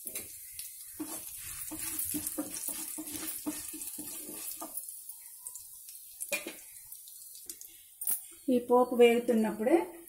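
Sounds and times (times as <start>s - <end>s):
spices sizzling and crackling in oil: 0.0s - 9.8s.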